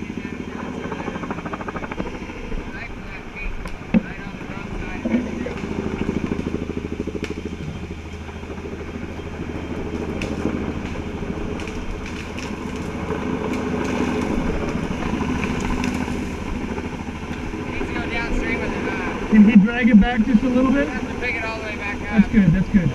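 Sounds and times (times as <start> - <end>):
helicopter rotor beating: 0.0 - 22.9.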